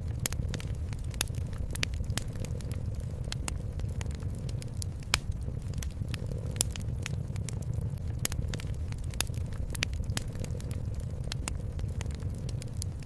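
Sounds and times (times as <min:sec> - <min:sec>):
low rumble of fire: 0:00.0 - 0:13.0
wood fire crackling: 0:00.0 - 0:13.0.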